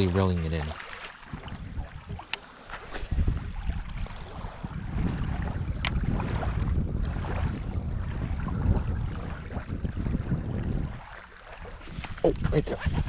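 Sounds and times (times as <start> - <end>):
small waves lapping: 0.0 - 13.0
wind buffeting microphone: 0.0 - 13.0.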